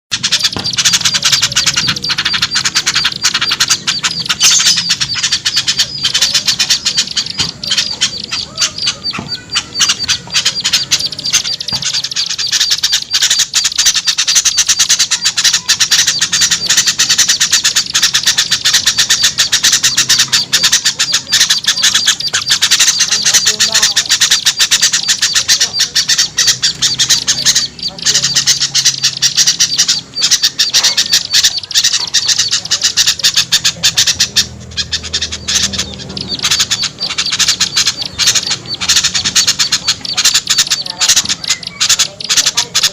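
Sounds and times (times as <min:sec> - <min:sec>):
many small birds chattering: 0:00.1 - 0:42.9.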